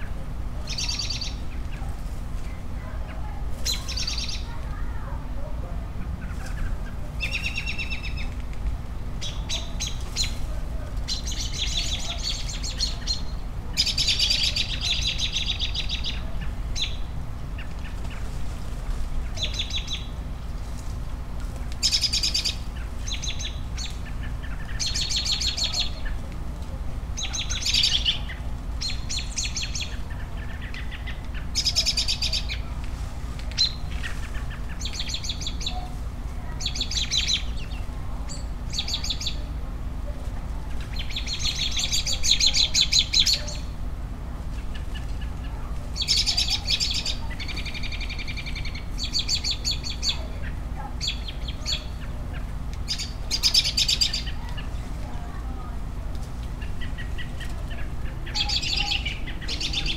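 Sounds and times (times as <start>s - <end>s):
birds chirping: 0.0s - 59.9s
low background hum: 0.0s - 59.9s.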